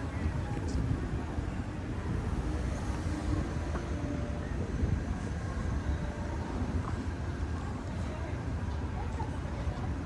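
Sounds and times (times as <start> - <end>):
low city rumble: 0.0 - 10.0.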